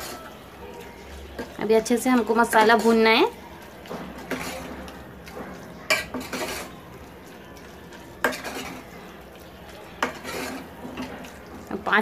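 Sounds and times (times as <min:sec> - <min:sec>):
food sizzling: 0:00.0 - 0:12.0
spatula scraping a pot: 0:00.0 - 0:12.0.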